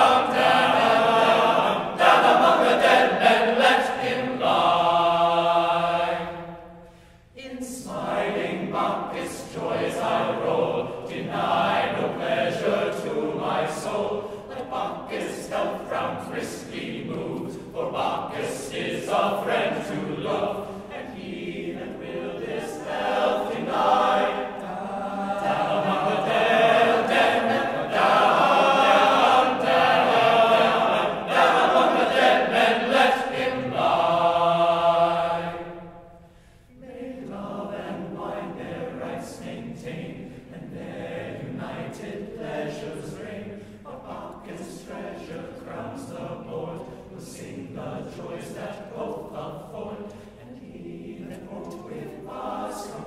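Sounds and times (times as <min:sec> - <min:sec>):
men's choir singing a cappella: 0:00.0 - 0:53.0.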